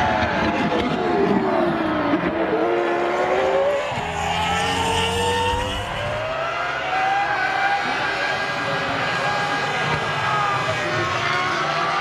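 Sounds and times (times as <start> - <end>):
racing car engines at high revs: 0.0 - 12.0.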